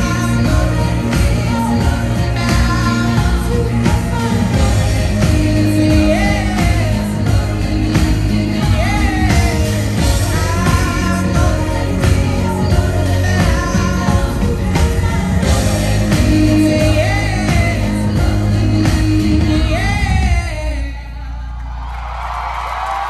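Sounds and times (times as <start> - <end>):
pop band playing: 0.0 - 21.4
woman singing: 0.0 - 21.5.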